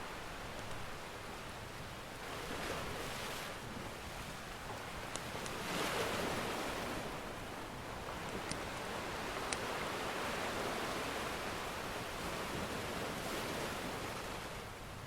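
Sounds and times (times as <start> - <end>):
ocean surf washing in: 2.2 - 14.7.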